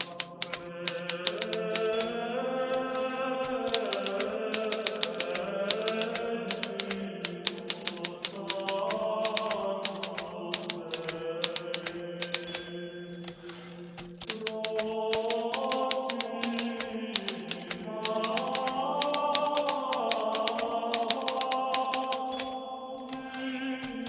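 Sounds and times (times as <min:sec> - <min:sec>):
manual typewriter typing: 0:00.0 - 0:24.0.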